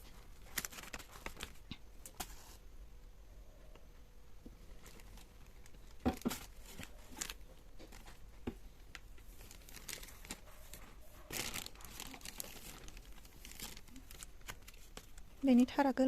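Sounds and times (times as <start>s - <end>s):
plastic packaging crinkling: 0.0s - 2.5s, 4.6s - 15.7s.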